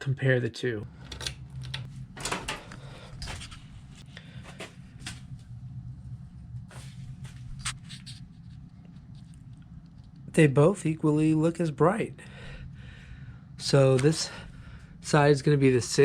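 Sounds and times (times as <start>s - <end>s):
low hum: 0.8s - 16.0s.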